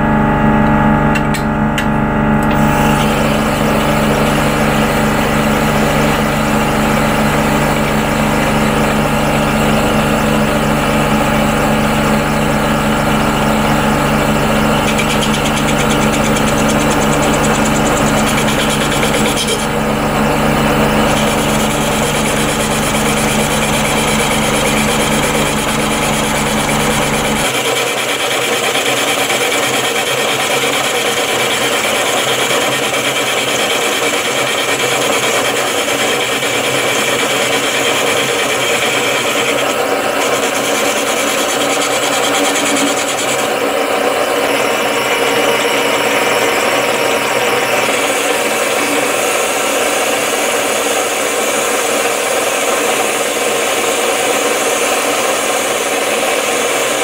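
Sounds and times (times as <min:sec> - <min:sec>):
lathe motor humming: 0:00.0 - 0:57.0
lathe cutting steel: 0:01.2 - 0:57.0.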